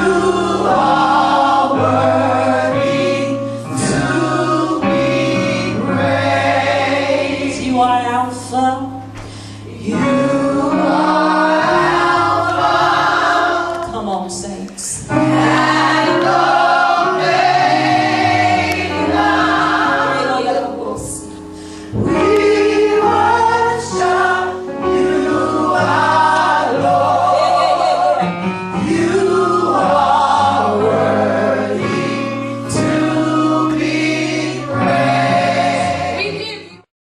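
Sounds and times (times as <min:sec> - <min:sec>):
gospel choir singing: 0:00.0 - 0:36.9.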